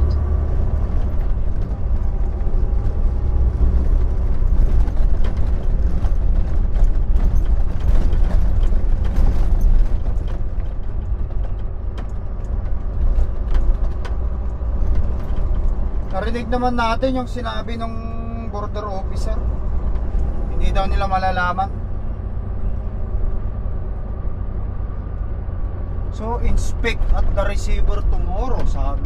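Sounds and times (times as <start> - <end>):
cab rattles and clicks: 0.0 - 21.8, 25.1 - 29.0
truck engine drone: 0.0 - 29.0.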